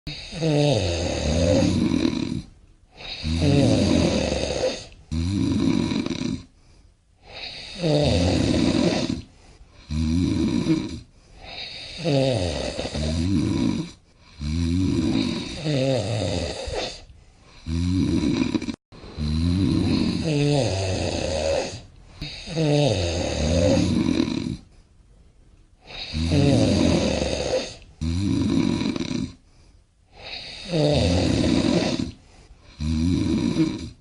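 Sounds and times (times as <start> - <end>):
person snoring: 0.1 - 6.6, 7.2 - 24.8, 25.8 - 29.4, 30.1 - 34.0.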